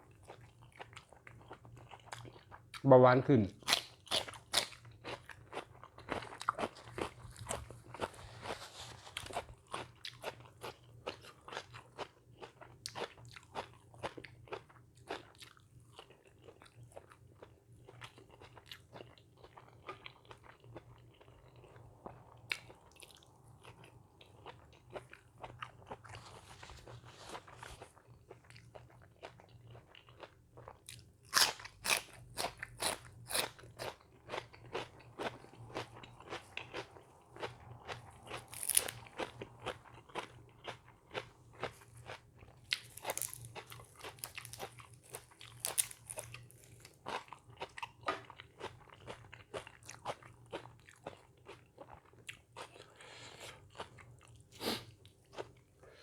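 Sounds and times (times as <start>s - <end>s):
person chewing crunchy food: 0.1s - 2.8s, 3.6s - 56.0s.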